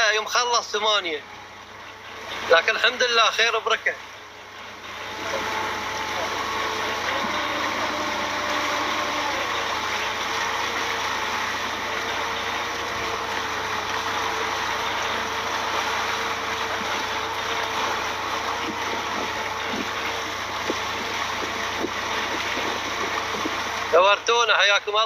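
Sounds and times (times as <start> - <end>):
outboard motor running: 0.0 - 25.0
wind and water rushing: 2.3 - 24.9.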